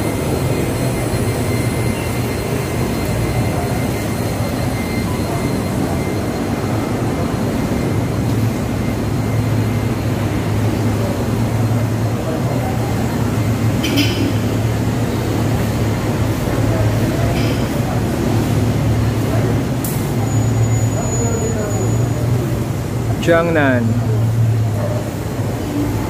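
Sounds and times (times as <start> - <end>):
background traffic rumble: 0.0 - 26.0.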